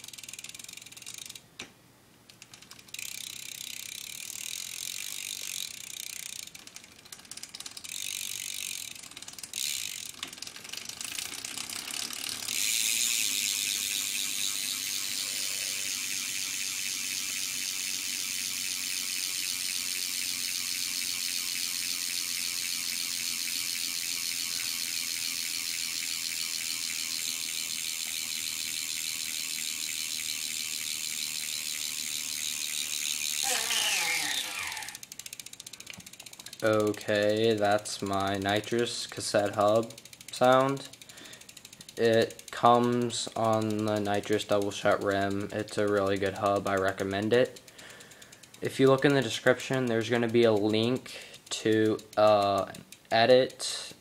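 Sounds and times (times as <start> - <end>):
bicycle hub ratcheting clicks: 0.0 - 1.7, 2.3 - 54.0.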